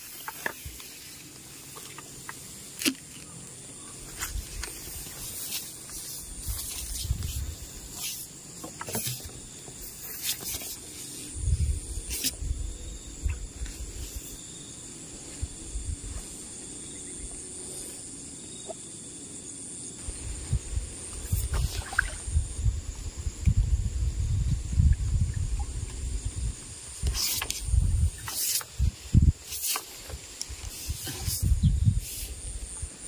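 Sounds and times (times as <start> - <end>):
steady high-pitched hiss: 0.0 - 33.0.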